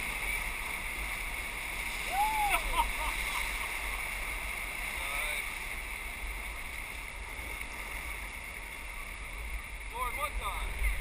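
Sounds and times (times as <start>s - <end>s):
whitewater rapids rushing: 0.0s - 10.4s.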